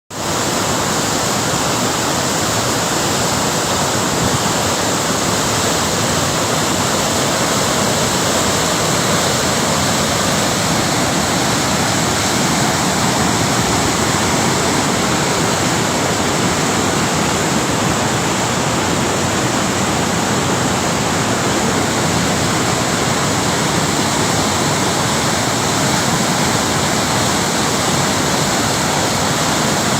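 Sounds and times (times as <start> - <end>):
waterfall rushing: 0.1 - 29.9.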